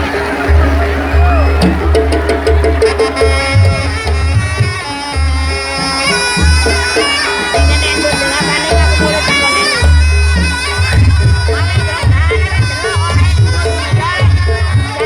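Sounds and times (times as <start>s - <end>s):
deep drum or gong beat: 0.0s - 4.8s, 6.0s - 15.0s
reedy shawm melody: 0.0s - 15.0s.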